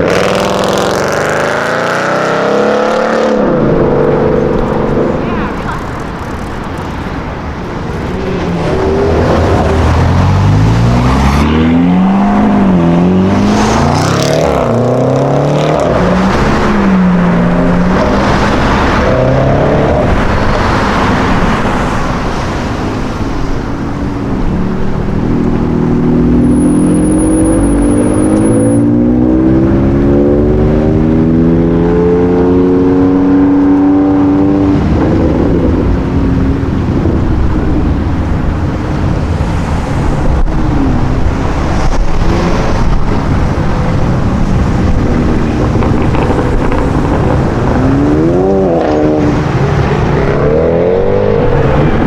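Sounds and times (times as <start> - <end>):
car engine accelerating hard: 0.0 - 52.0.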